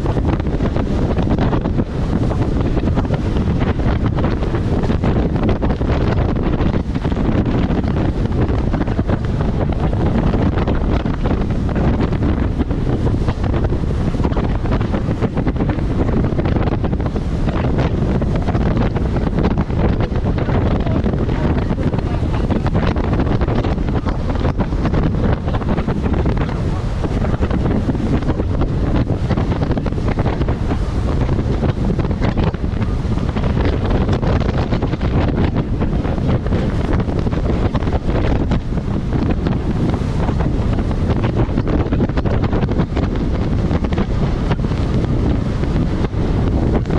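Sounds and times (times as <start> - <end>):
boat through choppy waves: 0.0 - 46.9
motorboat engine rumble: 0.0 - 46.9
water and hull noise: 0.0 - 46.9
wind buffeting microphone: 0.0 - 46.9.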